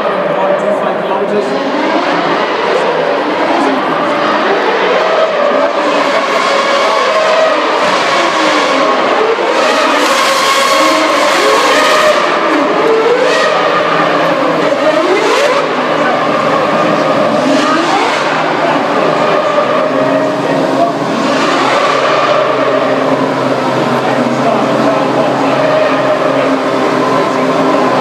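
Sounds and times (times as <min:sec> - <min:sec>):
racing car engines at high revs: 0:00.0 - 0:28.0.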